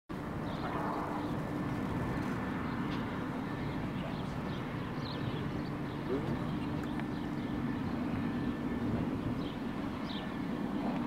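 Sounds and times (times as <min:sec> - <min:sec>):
locomotive engines droning: 0:00.1 - 0:11.0.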